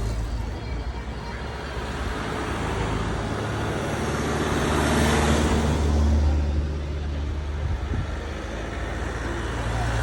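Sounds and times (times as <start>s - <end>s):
vehicle engine humming: 0.0s - 10.0s
vehicle passing: 1.5s - 10.0s.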